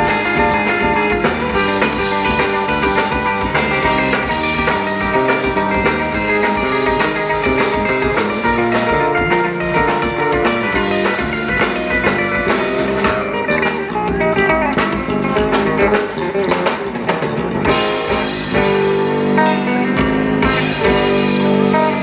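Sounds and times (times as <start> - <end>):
percussion hits: 0.0 - 22.0
plucked guitar lines: 0.0 - 22.0.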